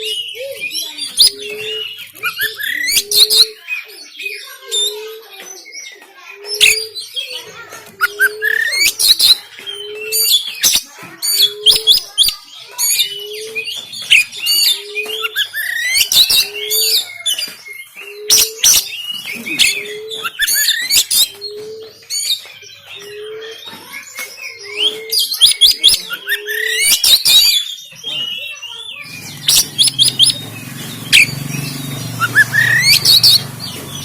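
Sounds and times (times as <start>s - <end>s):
magpie-robin singing: 0.0s - 34.0s.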